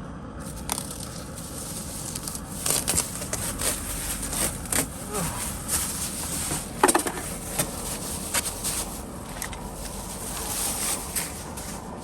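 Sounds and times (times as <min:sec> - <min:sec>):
rustling and crinkling: 0:00.4 - 0:12.0.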